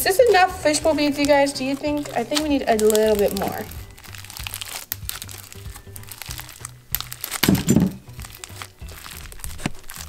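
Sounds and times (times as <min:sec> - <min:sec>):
background music: 0:00.0 - 0:10.0
slime beads crackling and popping: 0:00.0 - 0:10.0
slime squish: 0:01.0 - 0:10.0.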